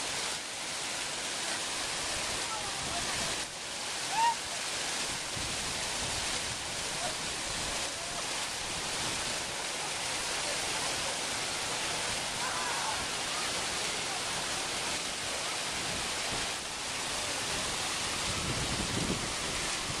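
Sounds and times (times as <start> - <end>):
water cascading over rocks: 0.0 - 20.0.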